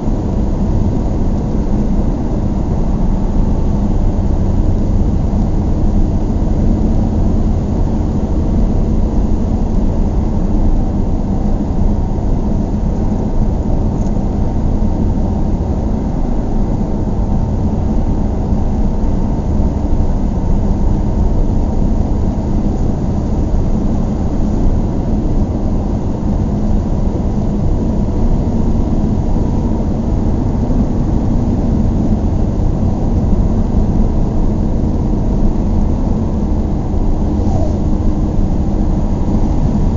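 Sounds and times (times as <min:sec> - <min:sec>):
car interior road drone: 0:00.0 - 0:39.9.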